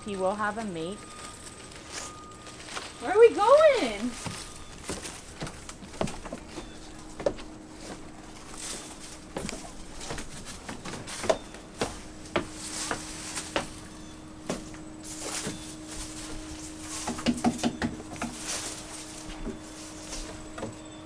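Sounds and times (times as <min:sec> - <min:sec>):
faint steady hum: 0:00.0 - 0:21.0
footsteps on wooden stairs: 0:02.7 - 0:21.0.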